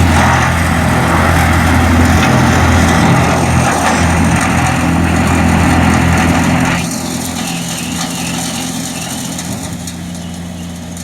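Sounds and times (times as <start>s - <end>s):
tractor engine drone: 0.0s - 11.0s
wood chipper shredding branches: 0.0s - 11.0s.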